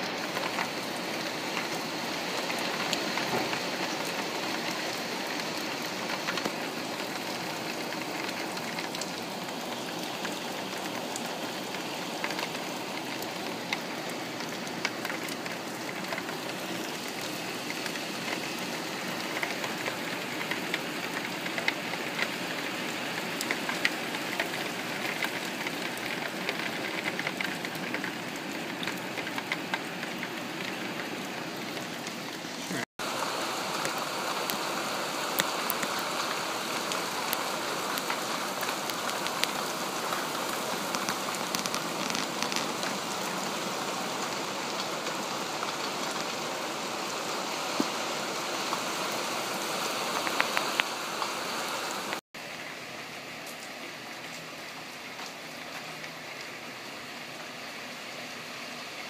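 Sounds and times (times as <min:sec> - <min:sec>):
raindrops ticking sharply: 0:00.0 - 0:52.6
heavy rain on a street: 0:00.0 - 0:59.0.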